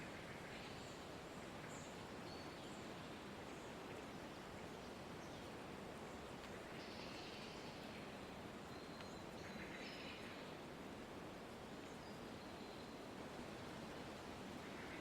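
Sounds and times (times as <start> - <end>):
soft forest hiss: 0.0 - 15.0.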